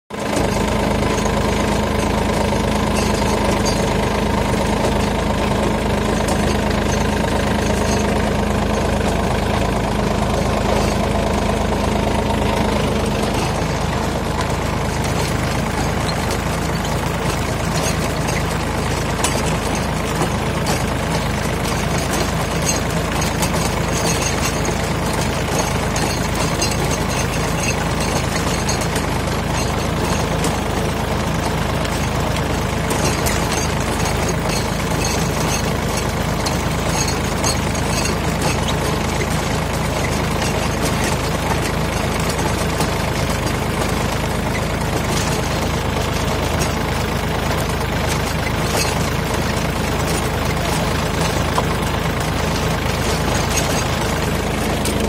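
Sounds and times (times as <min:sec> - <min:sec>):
tractor diesel engine running: 0:00.1 - 0:55.0.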